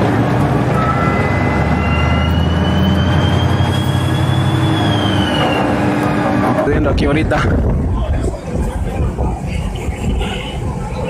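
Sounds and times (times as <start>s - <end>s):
loud engine running: 0.0s - 9.2s
rush of noise: 0.0s - 11.0s.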